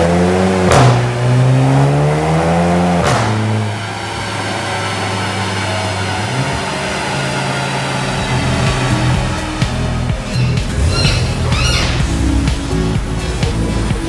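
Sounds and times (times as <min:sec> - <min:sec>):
car engine revving: 0:00.0 - 0:14.0
exhaust crack: 0:00.6 - 0:01.6, 0:02.9 - 0:14.0.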